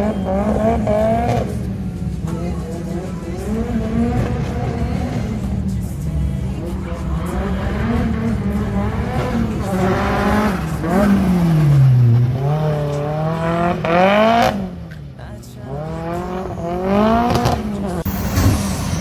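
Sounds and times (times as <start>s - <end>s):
car engine revving hard: 0.0s - 5.8s, 6.6s - 14.9s, 15.7s - 19.0s.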